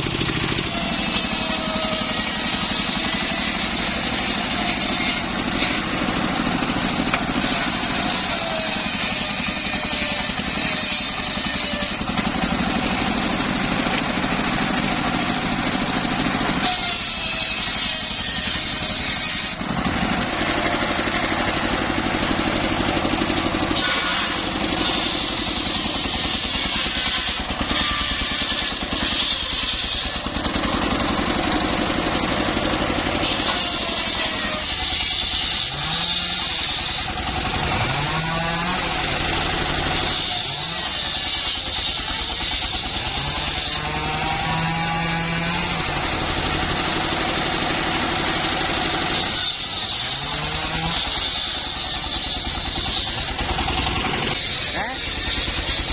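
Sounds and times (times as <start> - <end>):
sawmill saw cutting timber: 0.0 - 55.9.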